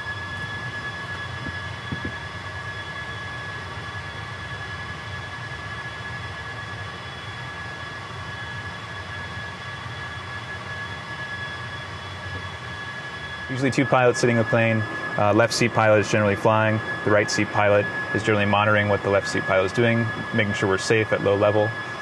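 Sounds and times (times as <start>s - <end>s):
electrical equipment humming with whine: 0.0s - 22.0s.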